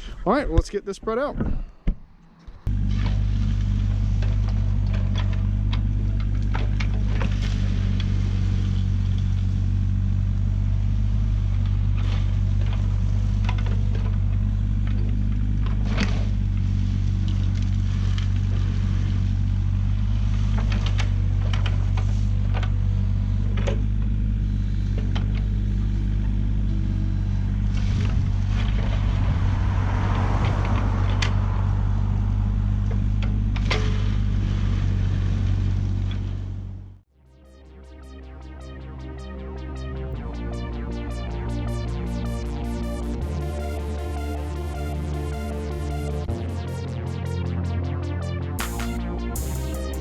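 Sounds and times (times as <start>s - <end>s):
diesel engine running: 2.6s - 50.0s.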